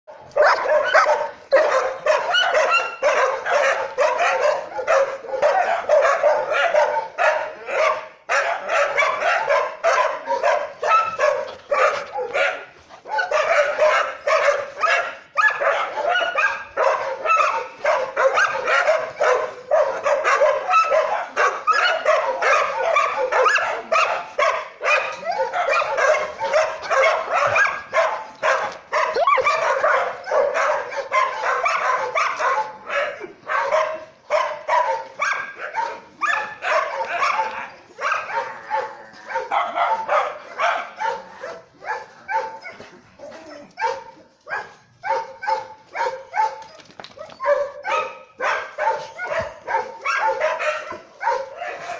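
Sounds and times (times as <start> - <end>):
dogs barking and yelping: 0.1 - 51.9.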